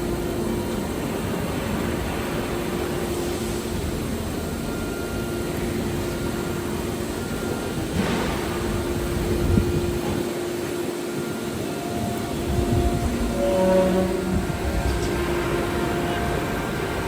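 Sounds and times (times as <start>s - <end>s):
machining center rushing noise: 0.0s - 17.0s.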